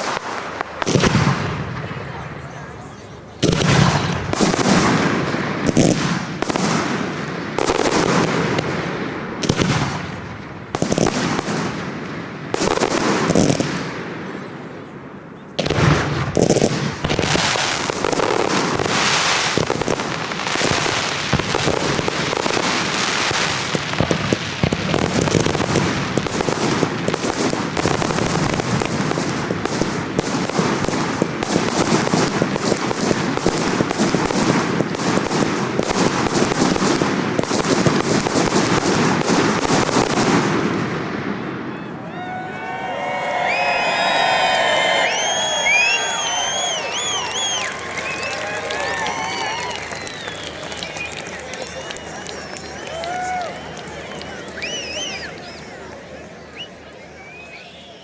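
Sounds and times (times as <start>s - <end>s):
rapid firework bangs and crackling: 0.0s - 14.9s, 15.6s - 41.8s, 45.2s - 55.8s.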